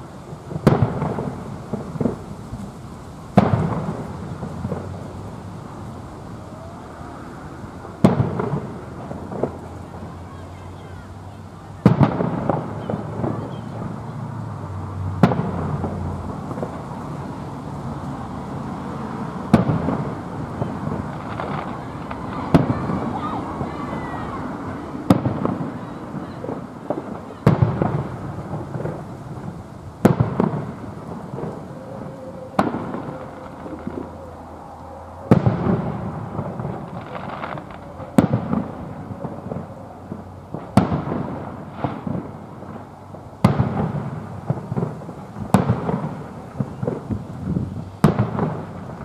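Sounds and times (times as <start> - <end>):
fireworks bursting with bangs: 0.0 - 49.0
rolling rumble and crackle: 0.0 - 49.0.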